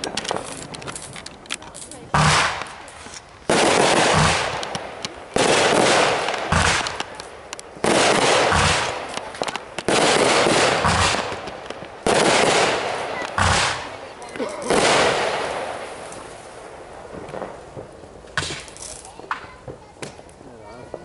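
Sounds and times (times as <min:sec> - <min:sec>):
fireworks bangs with crackle: 0:00.0 - 0:21.0.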